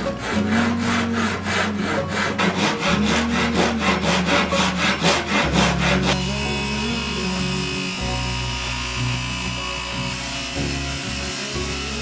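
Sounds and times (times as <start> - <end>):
hand saw cutting wood: 0.0 - 12.0.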